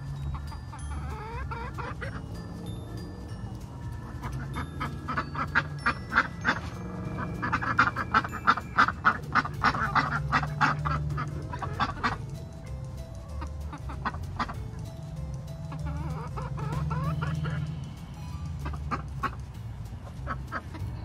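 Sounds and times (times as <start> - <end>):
chickens calling: 0.0 - 21.0.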